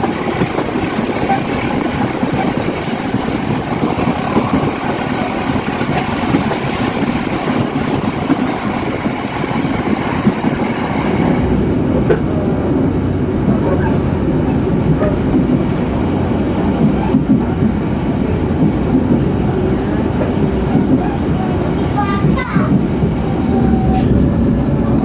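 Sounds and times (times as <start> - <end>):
rushing air: 0.0 - 21.8, 22.8 - 25.0
train wheels rumbling on rails: 0.0 - 25.0.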